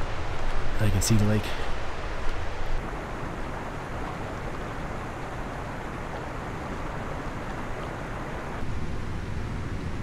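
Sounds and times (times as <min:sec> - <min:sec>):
creek rushing: 0:00.0 - 0:09.2.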